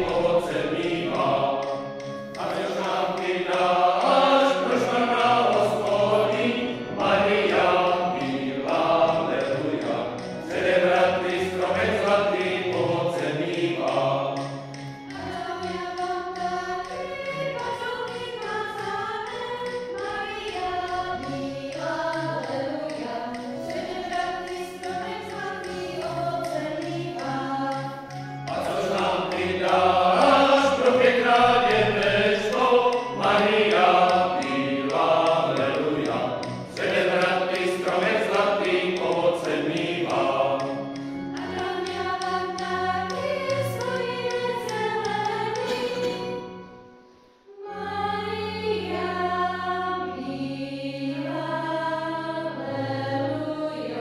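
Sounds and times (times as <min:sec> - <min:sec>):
choir singing unaccompanied: 0:00.0 - 0:54.0.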